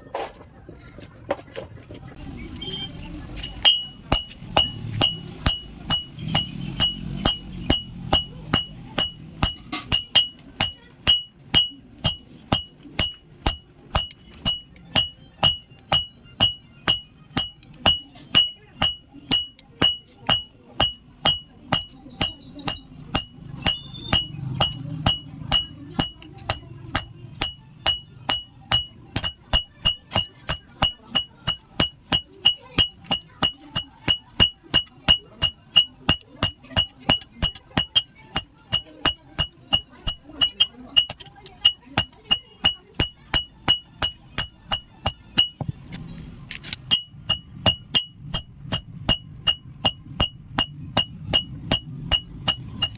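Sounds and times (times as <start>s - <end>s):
hammer striking iron on anvil: 3.4s - 46.0s, 46.6s - 52.9s.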